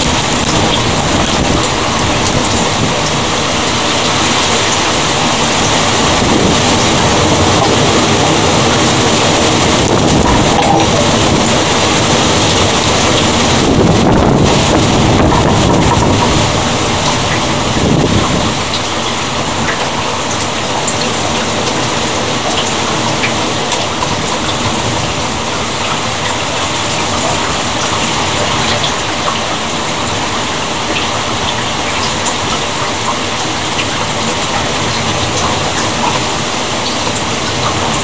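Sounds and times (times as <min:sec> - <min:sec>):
rain falling steadily: 0:00.0 - 0:38.0.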